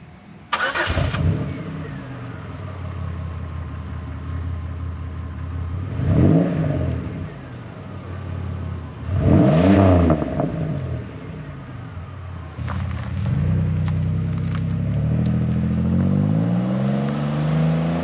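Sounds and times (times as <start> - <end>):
car exhaust idling and revving: 0.9 - 18.0.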